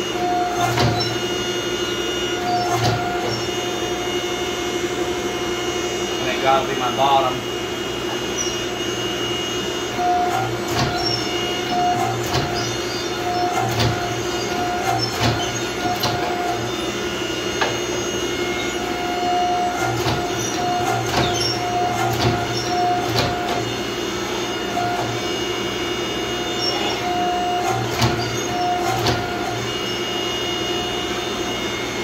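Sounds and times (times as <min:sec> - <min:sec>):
machine whine: 0:00.0 - 0:32.0
power hammer humming: 0:00.0 - 0:32.0.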